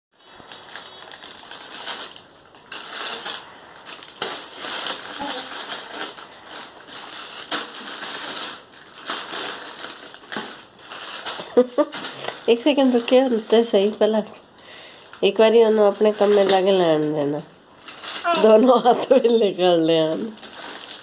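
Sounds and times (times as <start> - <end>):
plastic packets crinkling: 0.2 - 21.0.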